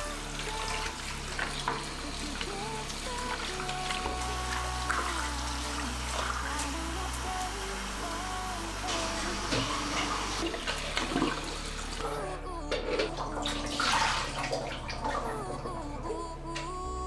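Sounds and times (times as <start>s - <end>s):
water splashing in a sink: 0.0s - 12.2s, 12.8s - 15.9s
soft pop music: 0.0s - 17.0s.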